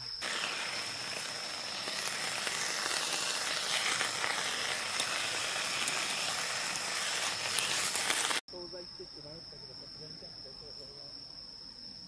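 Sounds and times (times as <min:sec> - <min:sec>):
continuous even hiss: 0:00.0 - 0:12.0
crickets trilling: 0:00.0 - 0:12.0.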